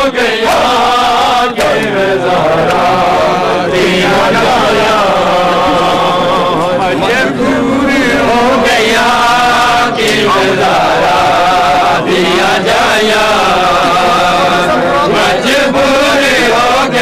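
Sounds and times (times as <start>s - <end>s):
loud vocal chanting: 0.0s - 17.0s.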